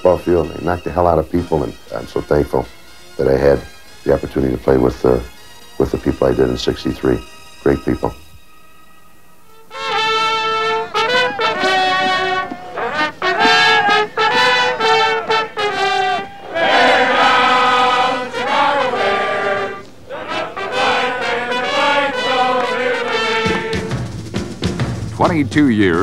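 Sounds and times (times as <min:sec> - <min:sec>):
trumpets playing brass tune: 0:00.0 - 0:24.2.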